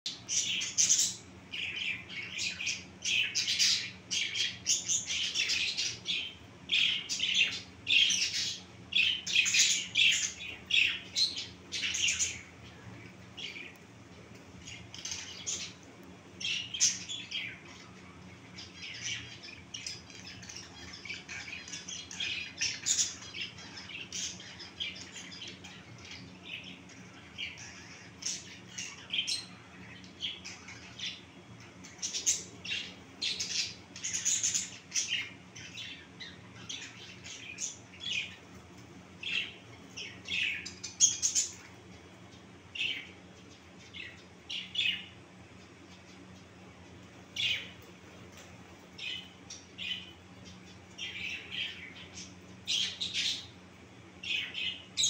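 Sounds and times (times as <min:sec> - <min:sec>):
finches chirping: 0:00.1 - 0:55.0.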